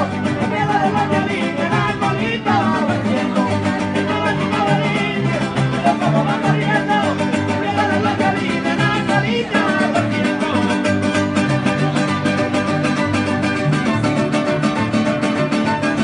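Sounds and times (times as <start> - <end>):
guitar: 0.0 - 16.0
plucked bass line: 0.0 - 16.0.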